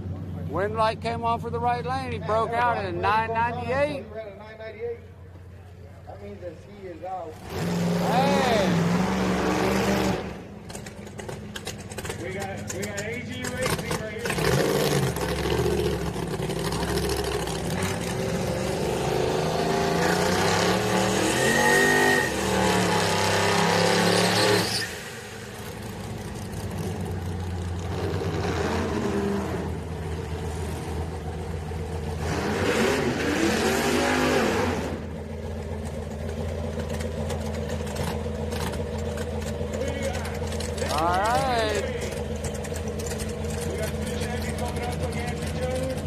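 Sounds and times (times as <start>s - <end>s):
truck engine revving: 7.1s - 46.0s.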